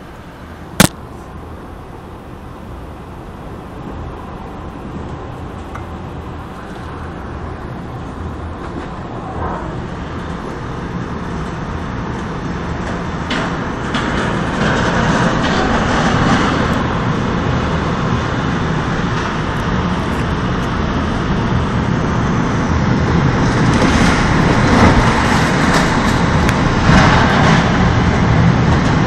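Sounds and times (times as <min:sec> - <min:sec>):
wind and heavy rain rushing: 0:00.0 - 0:29.0.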